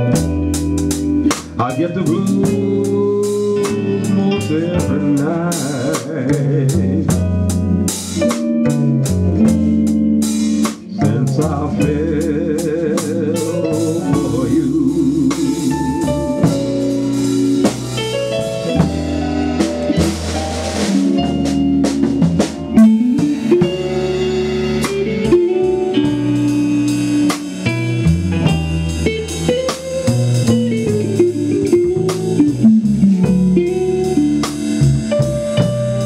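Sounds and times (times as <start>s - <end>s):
drum kit with snare rimshots: 0.0s - 36.0s
electric guitar: 0.0s - 36.0s
upright double bass: 0.0s - 36.0s.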